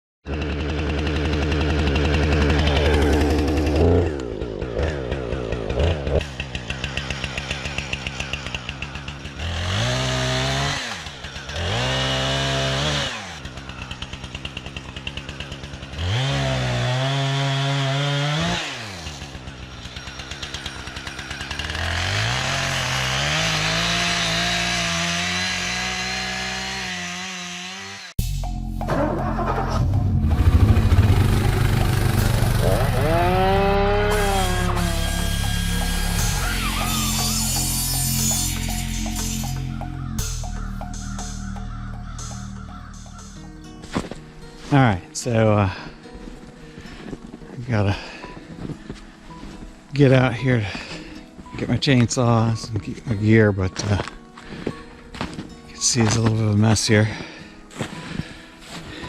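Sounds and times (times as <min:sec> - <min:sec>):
chainsaw revving and idling: 0:00.2 - 0:28.2, 0:29.2 - 0:52.8.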